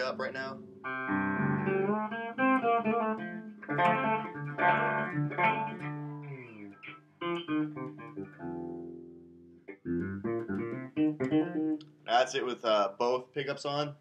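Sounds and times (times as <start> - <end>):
fretless bass plucked notes: 0.0 - 12.4.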